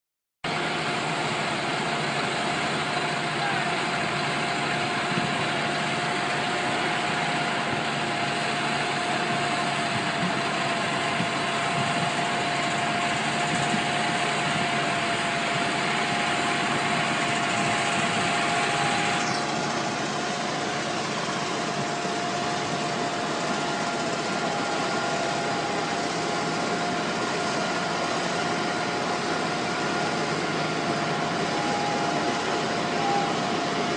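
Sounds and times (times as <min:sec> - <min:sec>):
diesel engine idling: 0:00.4 - 0:33.9
steady whine: 0:00.5 - 0:33.9.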